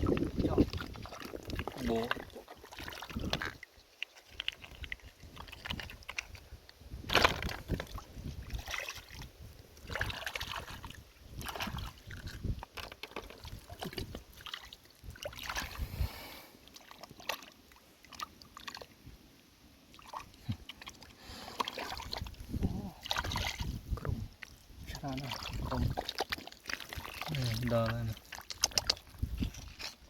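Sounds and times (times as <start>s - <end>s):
mud and water squelching: 0.0s - 30.0s.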